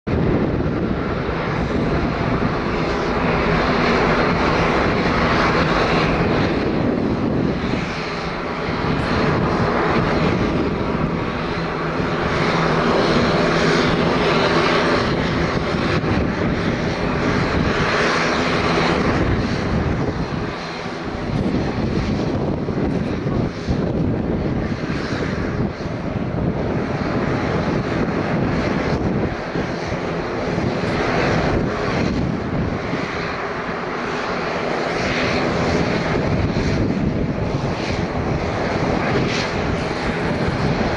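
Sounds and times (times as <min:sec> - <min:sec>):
jet engines at takeoff: 0:00.0 - 0:40.9.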